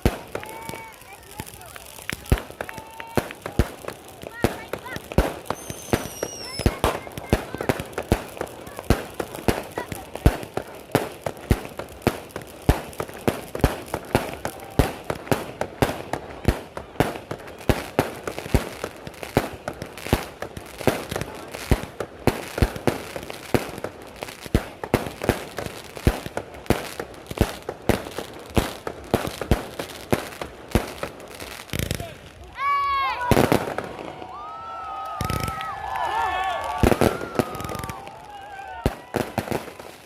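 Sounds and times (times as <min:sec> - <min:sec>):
firecracker bangs: 0:00.0 - 0:32.2
fireworks crackling: 0:00.0 - 0:40.0.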